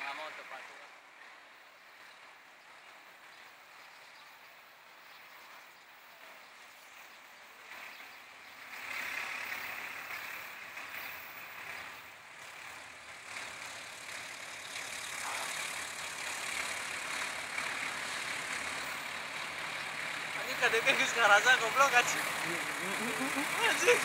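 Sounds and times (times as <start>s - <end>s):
distant heavy engines humming: 0.0s - 24.0s.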